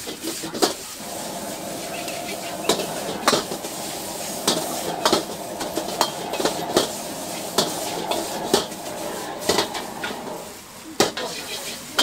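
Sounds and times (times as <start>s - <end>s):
steady hiss: 0.8s - 12.0s.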